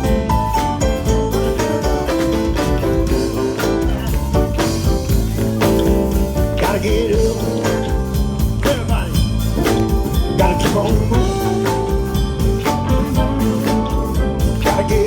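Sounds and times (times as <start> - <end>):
bass: 0.0 - 15.0
bending lead guitar line: 0.0 - 15.0
blues band playing: 0.0 - 15.0
drum beat: 0.0 - 15.0.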